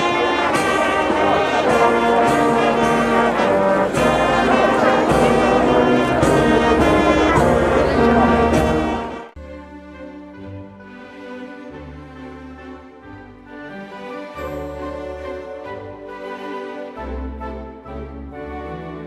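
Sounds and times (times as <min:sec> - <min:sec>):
brass band playing: 0:00.0 - 0:09.4, 0:10.5 - 0:19.0.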